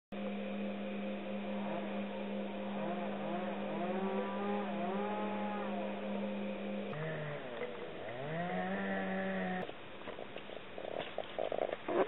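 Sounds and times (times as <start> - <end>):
steady mechanical hum: 0.1 - 12.0.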